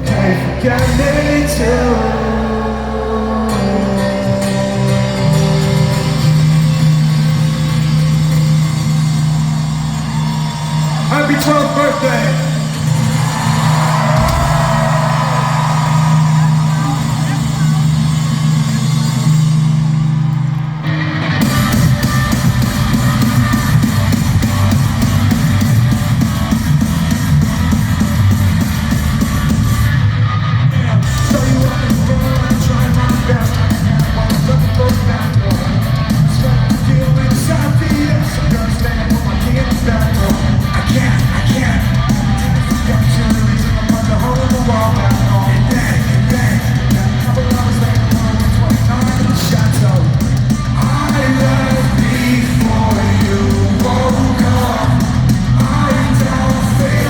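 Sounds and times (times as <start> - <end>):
drums: 0.0 - 57.0
guitars: 0.0 - 57.0
live rock band playing: 0.0 - 57.0
yelled singing: 0.0 - 57.0.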